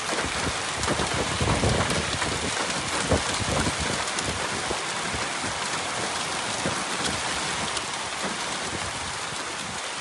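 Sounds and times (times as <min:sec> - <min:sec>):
hailstones striking: 0:00.0 - 0:10.0.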